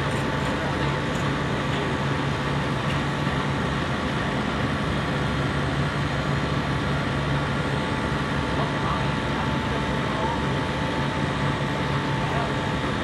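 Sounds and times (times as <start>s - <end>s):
compressor running: 0.0s - 13.0s.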